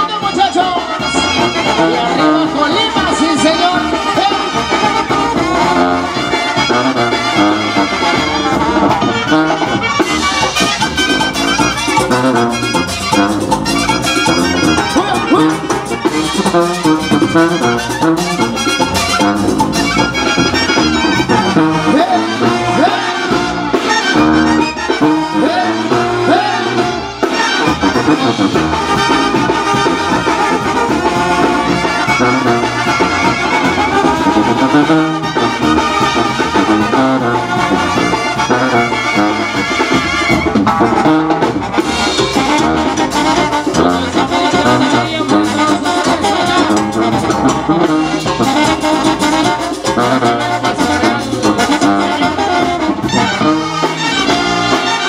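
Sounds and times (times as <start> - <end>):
brass band music: 0.0 - 55.0.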